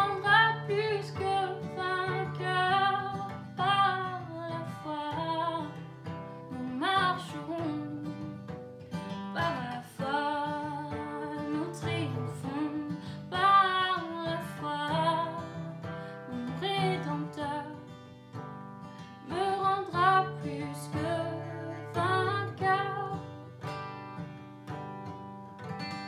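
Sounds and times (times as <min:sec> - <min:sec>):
woman singing: 0:00.0 - 0:18.2, 0:19.0 - 0:23.7
strummed acoustic guitar: 0:00.0 - 0:26.0.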